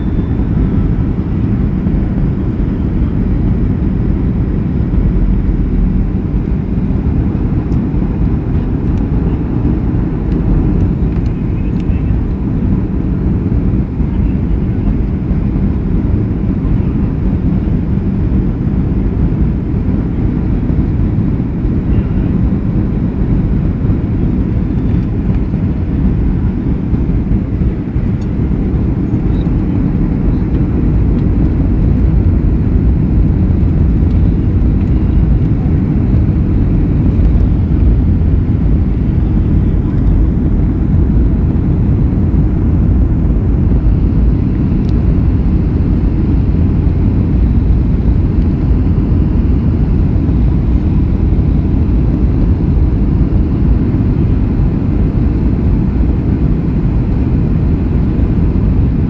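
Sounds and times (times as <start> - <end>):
vehicle rumble in motion: 0.0 - 59.0.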